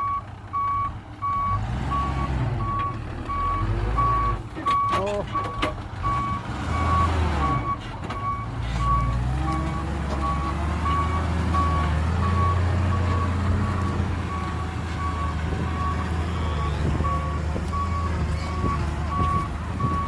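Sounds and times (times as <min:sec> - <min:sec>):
reversing alarm beeping: 0:00.0 - 0:20.0
vehicle engine running low: 0:00.0 - 0:20.0.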